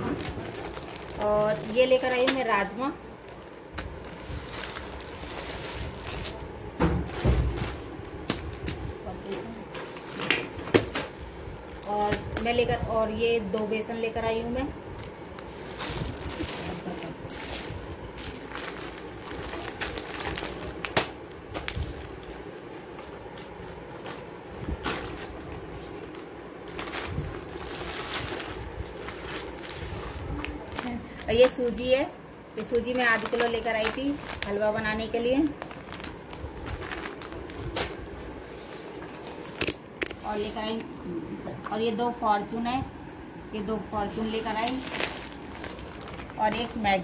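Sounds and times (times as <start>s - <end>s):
plastic packets crinkling: 0.0s - 10.2s, 15.1s - 40.2s, 44.1s - 47.0s
plastic bags rustling: 0.0s - 40.9s, 43.9s - 47.0s.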